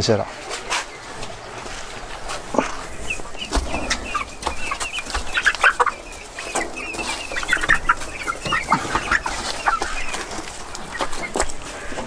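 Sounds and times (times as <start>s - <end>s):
chickens clucking and cheeping: 0.0s - 12.0s.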